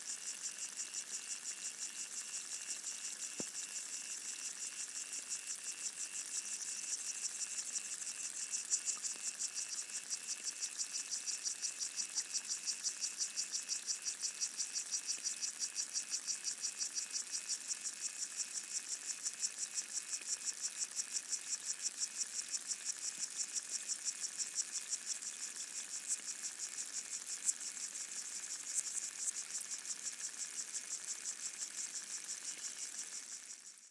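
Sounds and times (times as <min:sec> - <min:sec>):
water insects stridulating underwater: 0:00.0 - 0:33.9.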